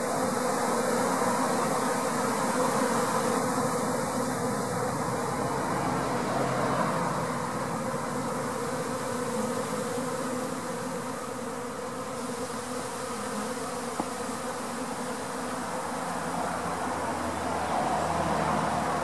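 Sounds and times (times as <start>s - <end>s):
bee swarm buzzing: 0.0s - 19.0s.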